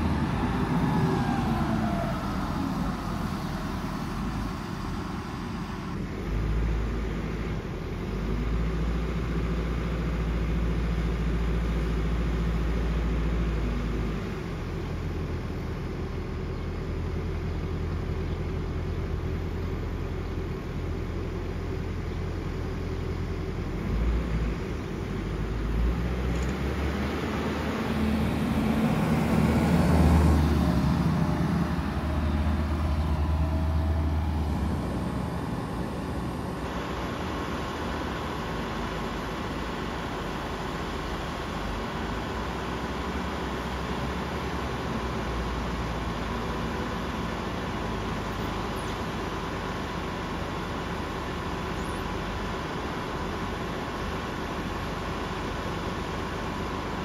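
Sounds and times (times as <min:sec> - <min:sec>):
farm machinery engine humming: 0:00.0 - 0:57.0.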